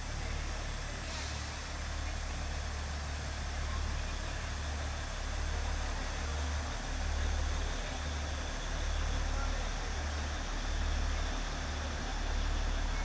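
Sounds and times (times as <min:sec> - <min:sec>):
small train running: 0:00.0 - 0:13.0.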